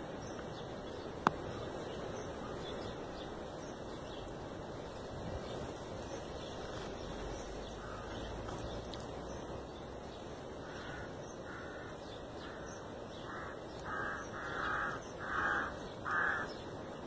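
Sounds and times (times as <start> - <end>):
outdoor background noise: 0.0 - 17.0
faint bird calls: 0.2 - 17.0.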